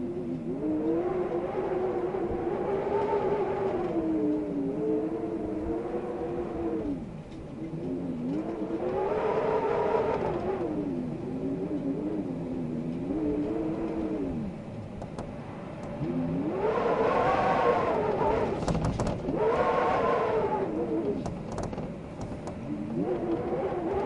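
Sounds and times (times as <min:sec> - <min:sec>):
wind howling: 0:00.0 - 0:24.0.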